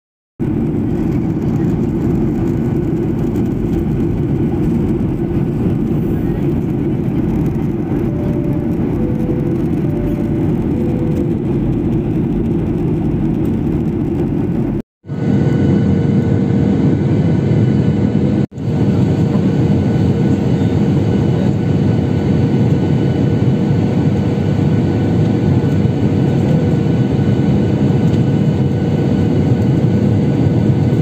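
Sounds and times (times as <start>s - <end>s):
airliner cabin engine rush: 0.4s - 31.0s.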